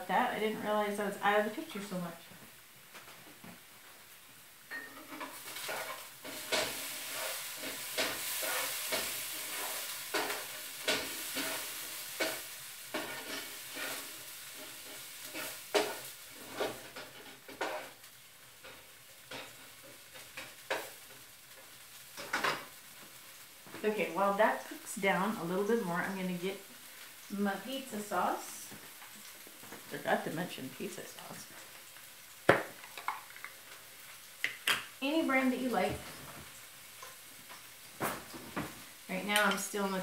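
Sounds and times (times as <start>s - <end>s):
food sizzling in a frying pan: 0.0s - 40.0s.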